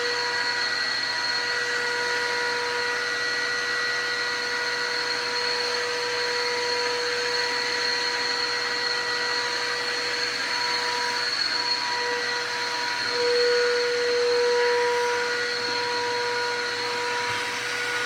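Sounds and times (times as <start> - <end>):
shop vacuum running: 0.0 - 18.0.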